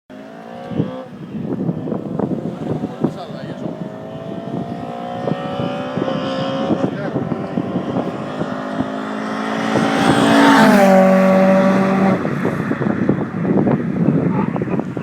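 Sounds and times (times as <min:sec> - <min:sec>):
car engine passing by at speed: 0:00.1 - 0:14.3.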